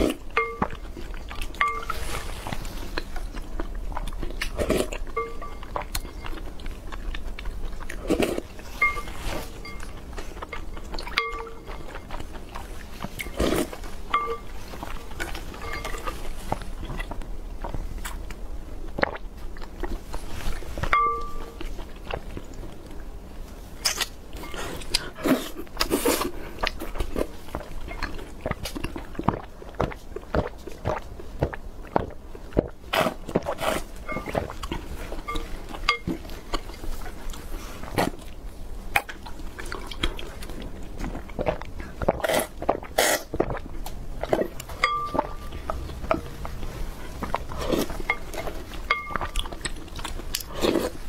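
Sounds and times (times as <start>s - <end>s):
chewing: 0.0s - 23.1s, 23.8s - 51.0s.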